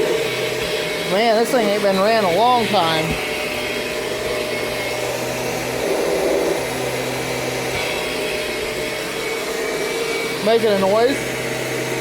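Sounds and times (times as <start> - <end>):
vacuum cleaner motor drone: 0.0 - 12.0.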